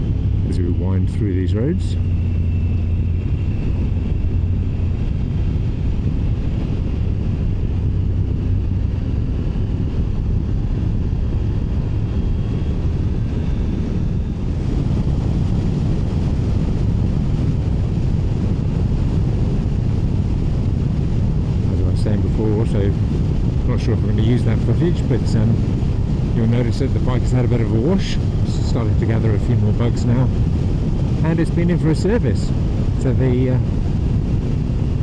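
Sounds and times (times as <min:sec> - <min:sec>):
wind rush over microphone: 0:00.0 - 0:35.0.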